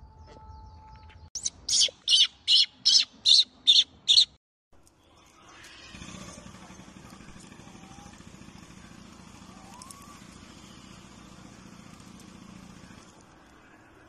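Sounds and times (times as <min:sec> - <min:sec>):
faint short rising calls: 0:01.4 - 0:14.0
vehicle engine humming: 0:02.7 - 0:14.0.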